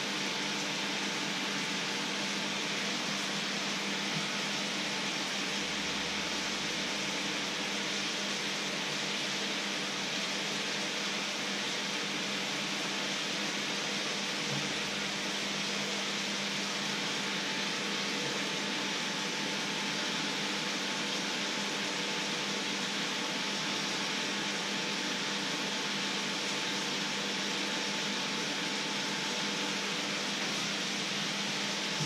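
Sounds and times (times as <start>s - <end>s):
water boiling in a pan: 0.0s - 32.0s.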